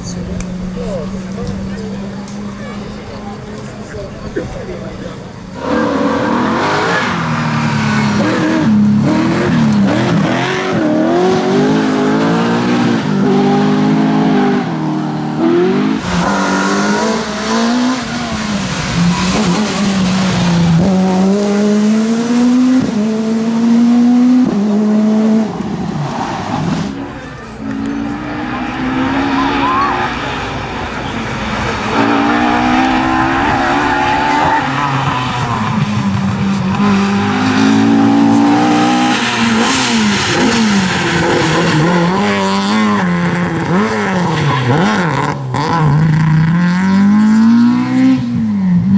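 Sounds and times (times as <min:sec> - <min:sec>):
rally car engine at high revs: 0:00.0 - 0:48.9.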